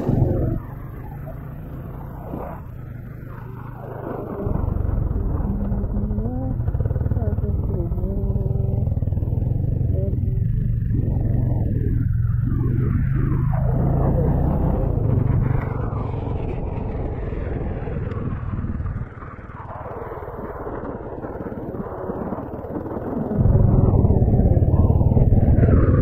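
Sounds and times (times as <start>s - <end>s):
motorcycle engine and wind rumble: 0.0s - 26.0s.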